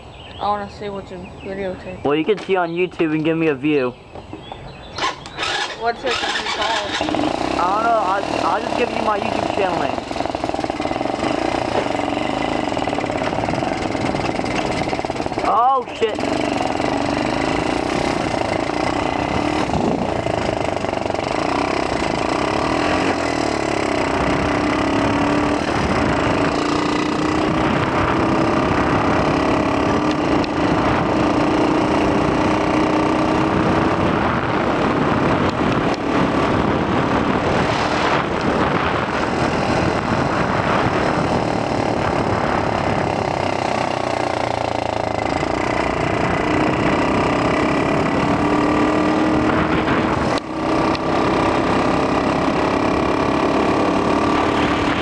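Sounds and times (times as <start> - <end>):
wind noise on microphone: 0.0 - 55.0
small motorbike engine running: 4.9 - 55.0.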